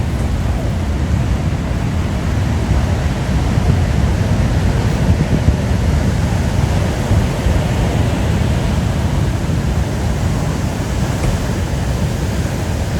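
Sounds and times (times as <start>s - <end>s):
ocean waves washing ashore: 0.0s - 12.9s
wind buffeting microphone: 0.0s - 12.9s.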